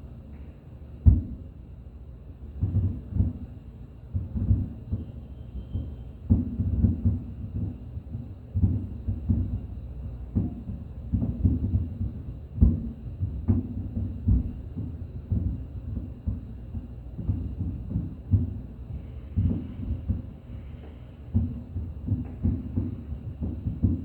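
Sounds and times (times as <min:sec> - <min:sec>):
fireworks booming: 0:02.5 - 0:24.0.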